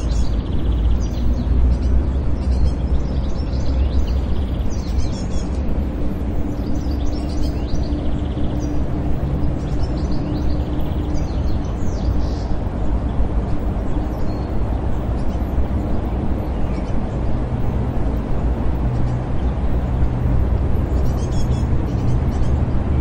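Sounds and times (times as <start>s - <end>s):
distant traffic rumble: 0.0s - 23.0s
low hum: 0.0s - 23.0s.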